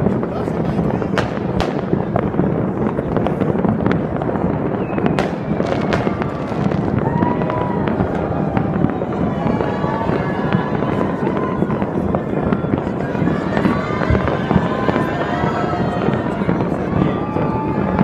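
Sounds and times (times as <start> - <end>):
distant fireworks crackling: 0.0 - 18.0
sharp firework bangs: 0.0 - 18.0.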